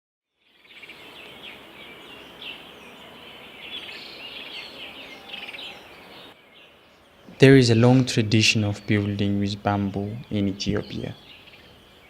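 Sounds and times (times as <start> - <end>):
outdoor background hiss: 0.3 - 12.0
small birds chirping: 0.3 - 12.0.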